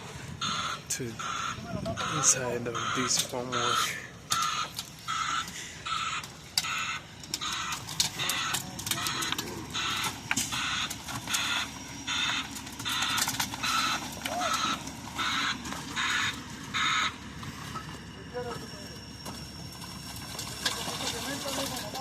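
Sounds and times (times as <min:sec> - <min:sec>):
low running engine: 0:00.0 - 0:22.0
truck reversing beeper: 0:00.0 - 0:22.0.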